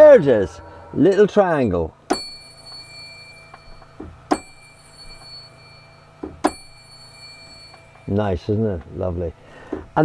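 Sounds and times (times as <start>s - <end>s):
triangle ringing: 0.0s - 9.3s.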